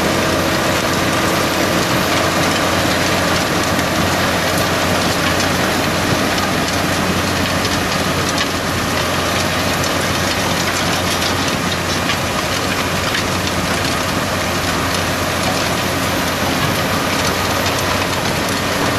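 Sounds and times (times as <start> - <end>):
tractor engine under load: 0.0 - 18.9.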